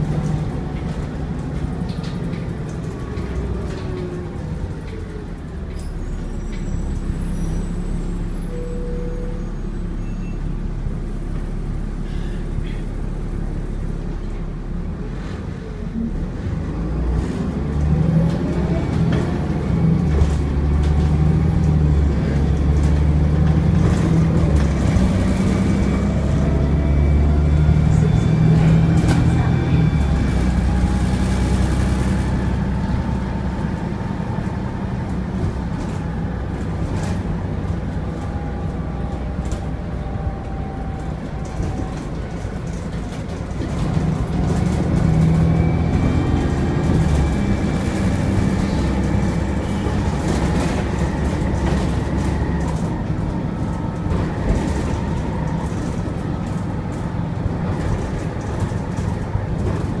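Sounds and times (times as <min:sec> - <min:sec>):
bus diesel engine running: 0:00.0 - 1:00.0.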